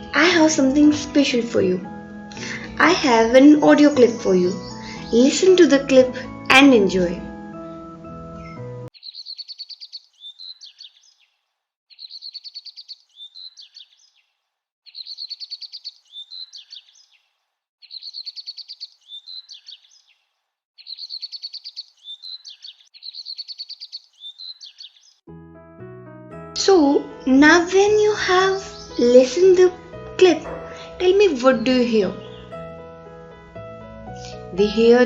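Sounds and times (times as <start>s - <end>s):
bird song with trill: 3.0s - 25.2s, 27.2s - 33.2s.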